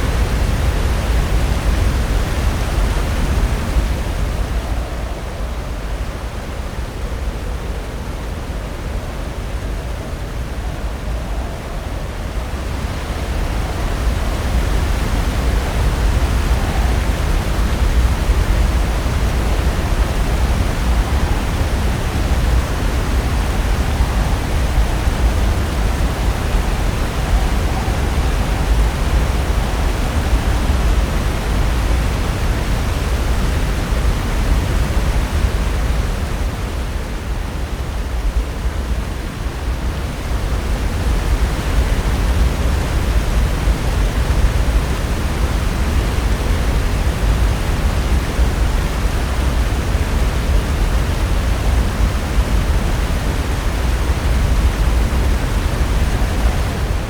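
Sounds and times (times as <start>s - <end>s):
surf breaking ashore: 0.0s - 57.0s.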